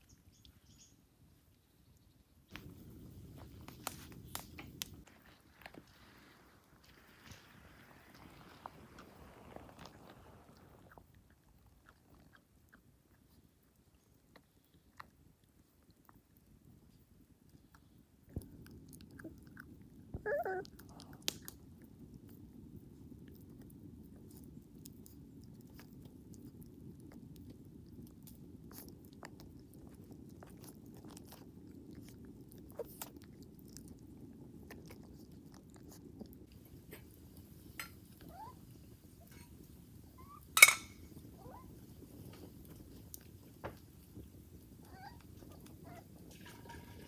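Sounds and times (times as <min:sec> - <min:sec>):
puppy chewing on a bone: 0:02.5 - 0:47.0.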